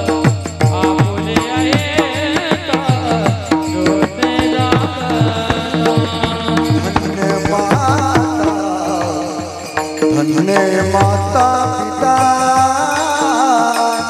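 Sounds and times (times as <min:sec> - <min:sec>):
hand cymbals: 0:00.0 - 0:14.0
person singing: 0:00.0 - 0:14.0.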